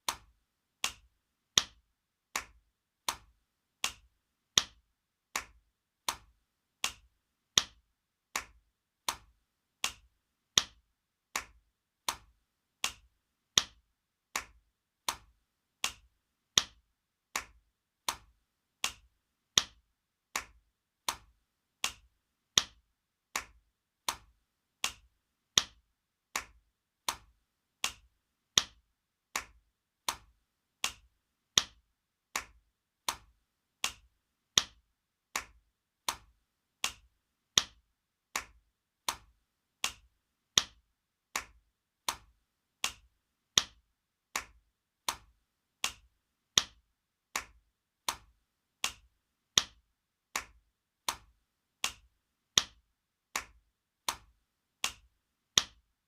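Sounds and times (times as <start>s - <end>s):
hand slapping skin: 0.0s - 55.8s.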